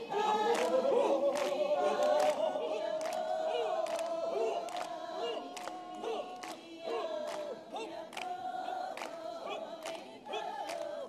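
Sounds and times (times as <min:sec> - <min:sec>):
group chanting: 0:00.0 - 0:11.0.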